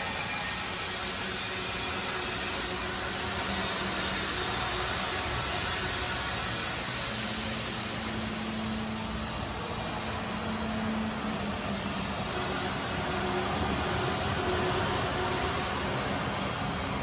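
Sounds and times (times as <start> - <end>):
machinery hum and hiss: 0.0 - 17.0.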